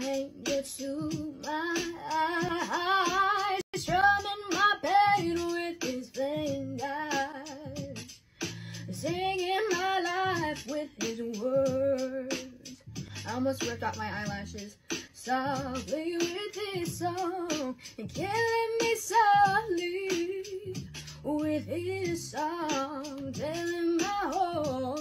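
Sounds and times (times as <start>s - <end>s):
woman singing: 0.0s - 8.0s, 8.9s - 25.0s.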